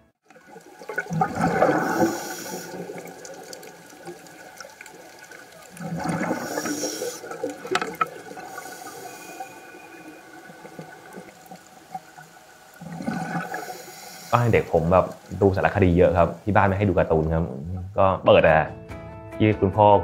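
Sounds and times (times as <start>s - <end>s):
underwater exhaled bubbles: 0.2s - 16.5s
low hiss: 0.3s - 18.6s.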